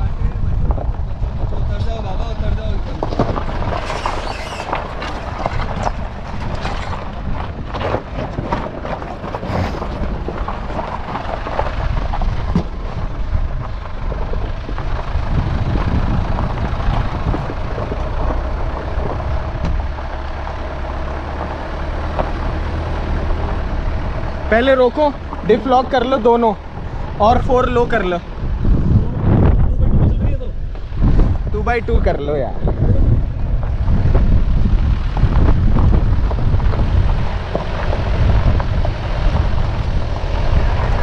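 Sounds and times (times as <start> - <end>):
diesel engine pulling: 0.0 - 41.0
stones crackling under tyres: 0.0 - 41.0.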